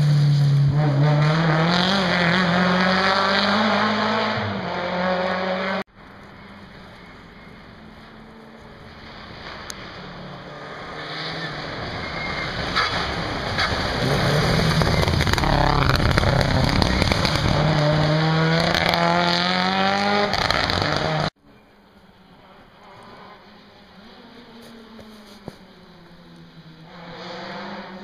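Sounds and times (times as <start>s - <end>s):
rally car engine revving: 0.0s - 5.9s, 8.3s - 21.3s, 23.0s - 28.0s.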